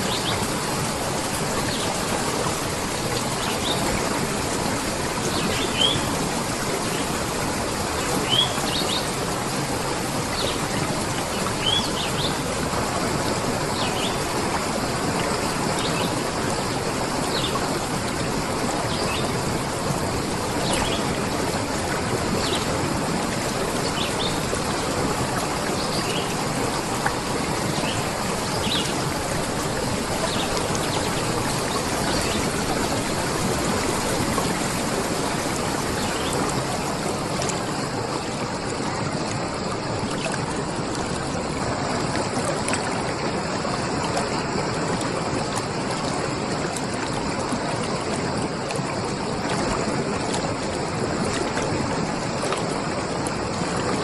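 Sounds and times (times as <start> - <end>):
stream running: 0.0 - 54.0.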